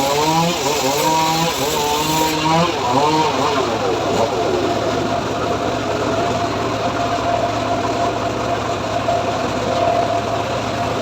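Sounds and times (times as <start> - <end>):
saw engine idling: 0.0 - 11.0.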